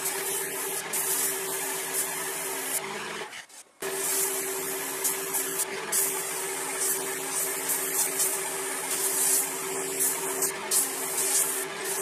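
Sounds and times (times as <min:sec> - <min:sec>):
airbrush air hiss: 0:00.0 - 0:02.8, 0:03.8 - 0:12.0.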